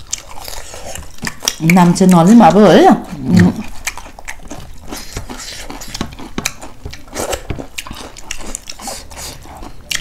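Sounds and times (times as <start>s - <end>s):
person chewing crunchy food: 0.0s - 10.0s.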